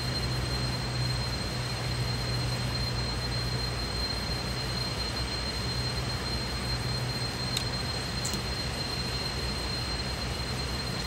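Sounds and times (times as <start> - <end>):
thin steady high tone: 0.0 - 11.0.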